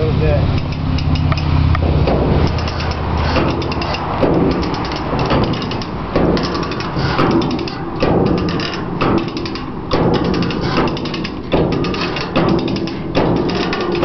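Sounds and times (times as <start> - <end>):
low engine hum: 0.0 - 14.0
metal ratchet clicking: 0.5 - 14.0.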